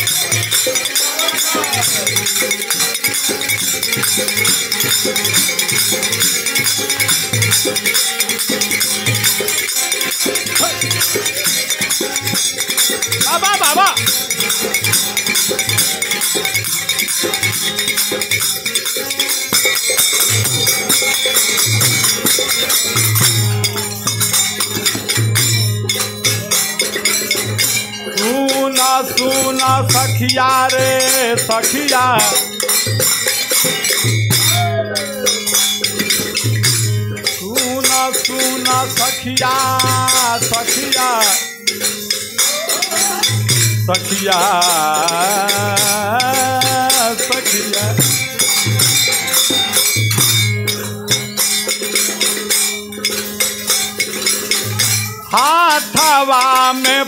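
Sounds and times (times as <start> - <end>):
dholak drum beating: 0.0 - 57.0
hand cymbals jangling: 0.0 - 57.0.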